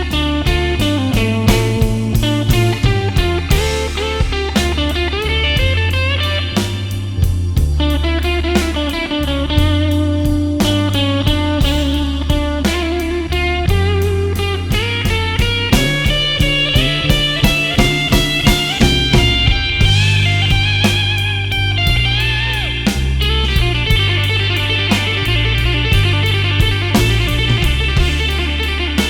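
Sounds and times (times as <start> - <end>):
bass and drums: 0.0 - 29.0
electric guitar lead: 0.0 - 29.0.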